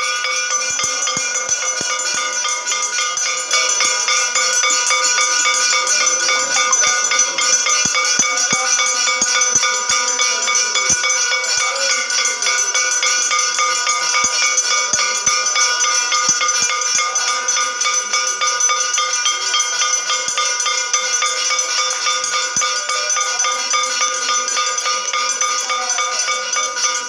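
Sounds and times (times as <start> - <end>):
metal temple bells ringing rapidly: 0.0 - 27.0.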